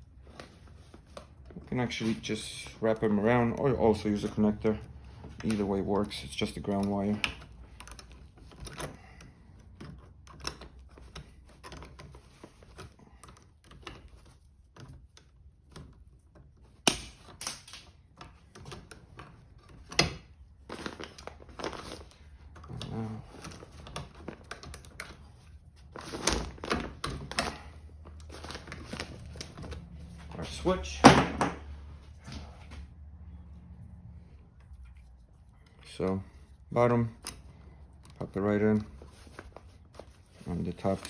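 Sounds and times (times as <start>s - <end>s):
wires being twisted and handled: 0.0s - 41.0s.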